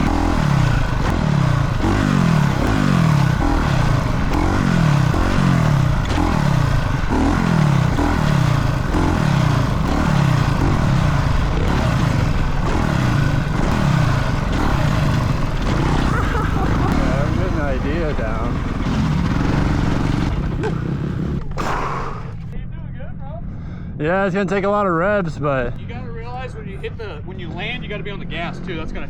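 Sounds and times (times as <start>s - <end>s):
dirt bike engine revving: 0.0s - 22.9s, 24.4s - 29.0s.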